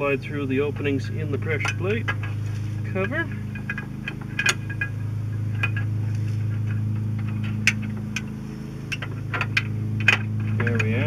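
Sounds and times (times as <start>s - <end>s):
steady low hum: 0.0s - 11.0s
metal clutch parts clicking: 0.6s - 11.0s.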